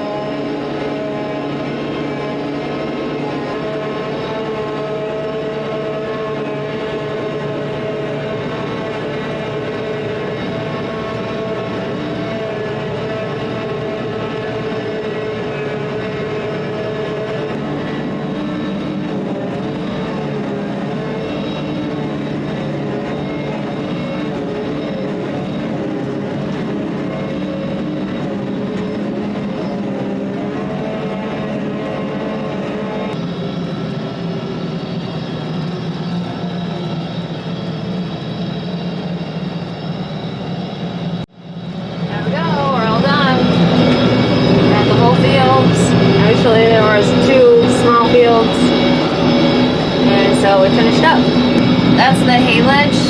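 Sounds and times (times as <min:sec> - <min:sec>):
heavy farm machinery engine running: 0:00.0 - 0:53.0.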